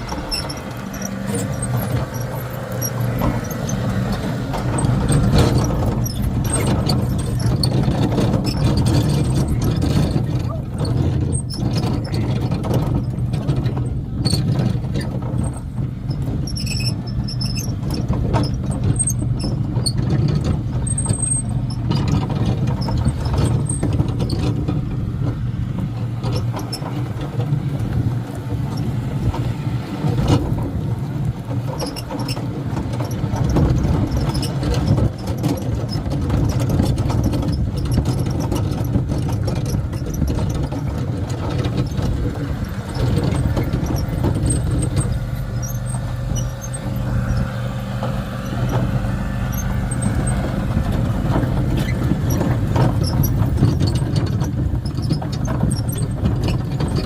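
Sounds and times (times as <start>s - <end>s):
carts squeaking and rattling: 0.0s - 57.0s
lawn tractor engine running: 0.0s - 57.0s.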